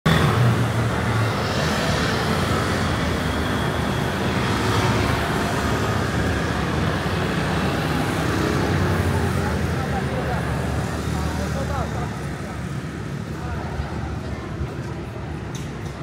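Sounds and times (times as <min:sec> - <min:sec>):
cars passing: 0:00.1 - 0:16.0
low rumble of engines: 0:00.1 - 0:16.0
motor scooters passing: 0:00.1 - 0:16.0.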